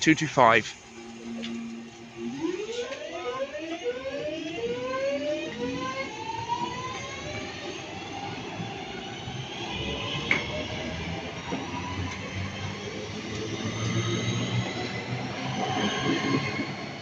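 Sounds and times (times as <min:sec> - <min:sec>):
electric train accelerating: 0:00.0 - 0:17.0.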